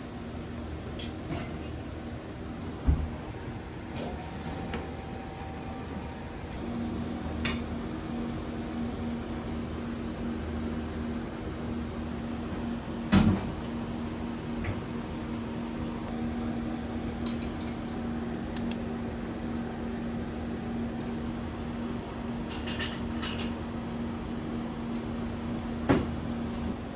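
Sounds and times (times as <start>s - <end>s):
low electrical hum: 0.0s - 26.9s.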